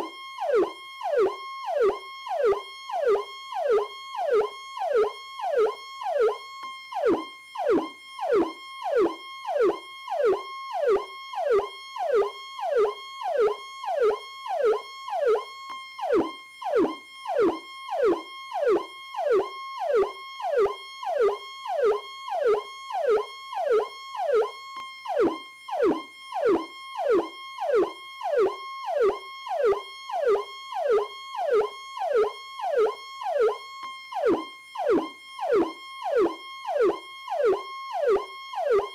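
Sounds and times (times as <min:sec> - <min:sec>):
police siren: 0:00.0 - 0:38.9.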